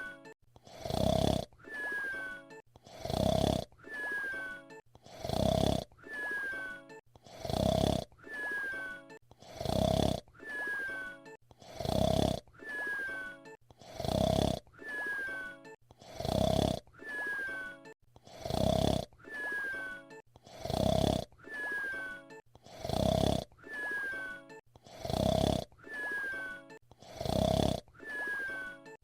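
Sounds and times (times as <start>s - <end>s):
cartoon whistle snoring: 0.0s - 29.0s.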